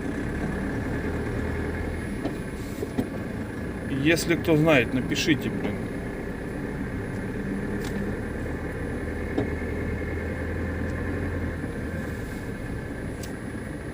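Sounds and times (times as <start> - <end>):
van engine and road rumble: 0.0 - 13.9.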